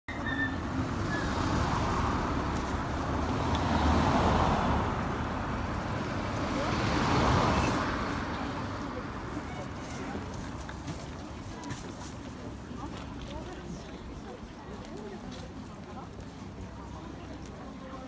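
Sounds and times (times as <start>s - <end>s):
cars passing on street: 0.1s - 18.0s.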